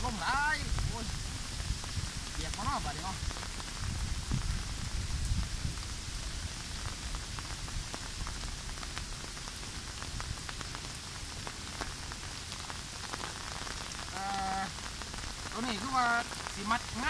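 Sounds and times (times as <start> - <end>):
raindrops hitting close: 0.0 - 17.0
steady rain: 0.0 - 17.0.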